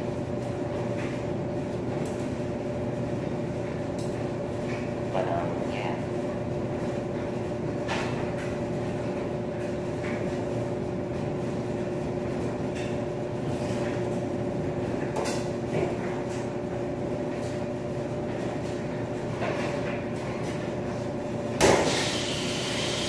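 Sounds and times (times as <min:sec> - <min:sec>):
laundry machines humming: 0:00.0 - 0:23.0.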